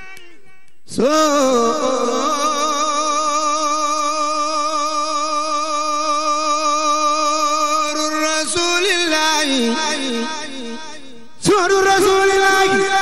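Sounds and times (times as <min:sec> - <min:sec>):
man chanting religious verse: 0:00.0 - 0:13.0.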